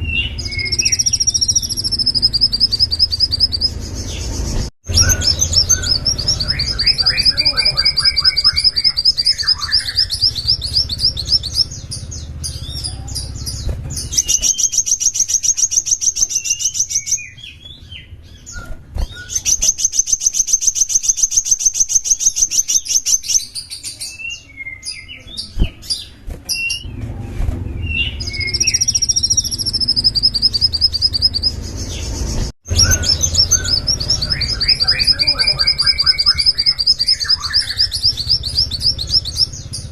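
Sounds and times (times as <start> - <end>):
songbird trilling: 0.0 - 26.9, 27.8 - 39.9.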